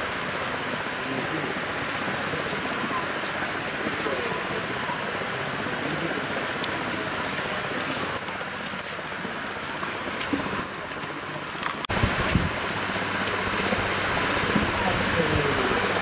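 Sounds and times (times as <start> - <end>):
light water splashes: 0.0 - 16.0
river water rushing over rocks: 0.0 - 16.0.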